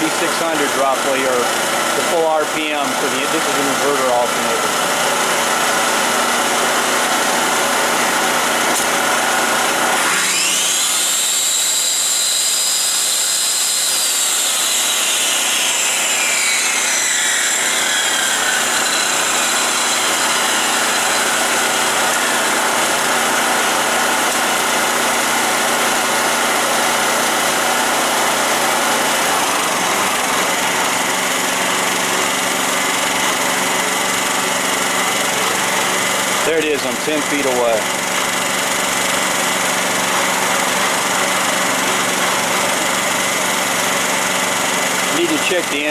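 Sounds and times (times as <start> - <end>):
generator engine running: 0.0 - 11.2, 14.4 - 45.9
circular saw whine: 0.0 - 45.9.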